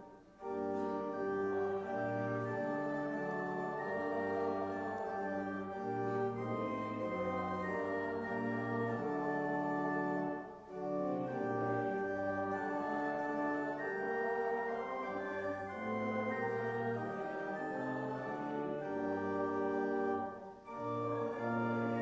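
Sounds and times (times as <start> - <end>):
organ playing hymn chords: 0.0 - 22.0.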